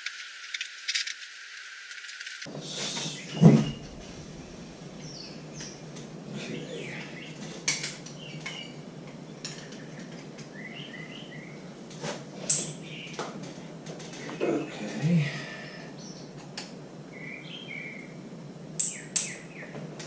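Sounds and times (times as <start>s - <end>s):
birds chirping: 2.4s - 20.0s.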